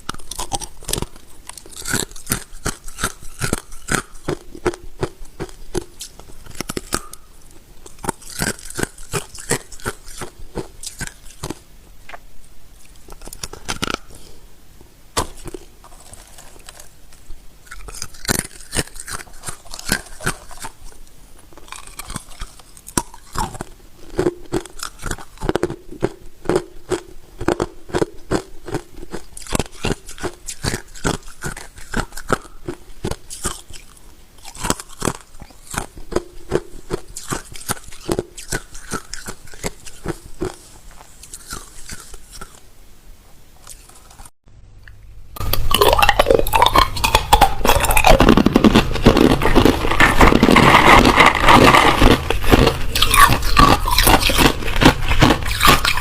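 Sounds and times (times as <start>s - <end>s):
dense crackling crunch: 0.0s - 12.2s, 15.2s - 42.6s, 45.4s - 56.0s
ice being chewed: 0.0s - 12.2s, 12.8s - 14.4s, 15.2s - 42.7s, 43.6s - 44.3s, 45.4s - 56.0s.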